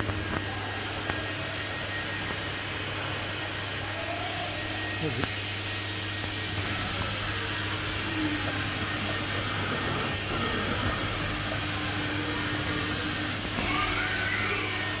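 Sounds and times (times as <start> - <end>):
grinding machine whirring: 0.0 - 15.0.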